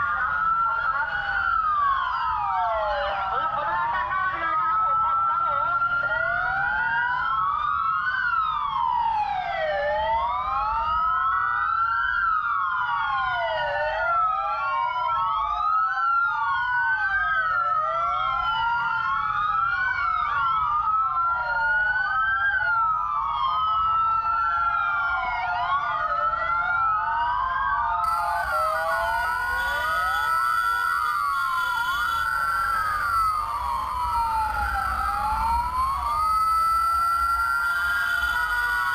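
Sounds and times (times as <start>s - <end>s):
emergency vehicle sirens wailing: 0.0s - 38.9s.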